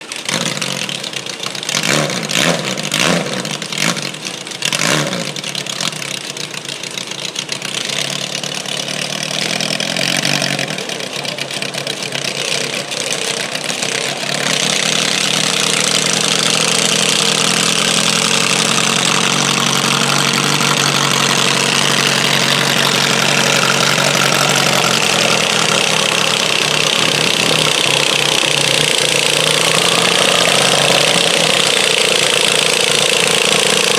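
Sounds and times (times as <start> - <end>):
garden tractor engine running: 0.0 - 33.9.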